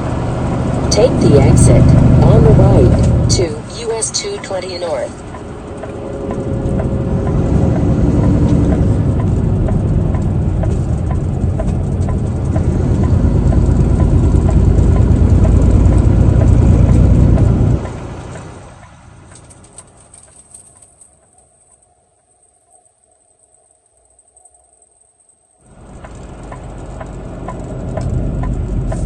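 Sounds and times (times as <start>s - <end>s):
truck engine and road rumble: 0.0s - 21.4s, 25.6s - 29.0s
light regular ticking: 0.0s - 22.4s, 23.4s - 29.0s.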